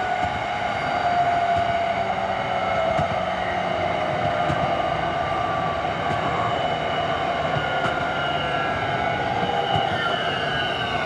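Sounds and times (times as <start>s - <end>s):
electric train motor whine: 0.0s - 11.0s
rail joint clicks: 0.0s - 11.0s
train rolling noise: 0.0s - 11.0s.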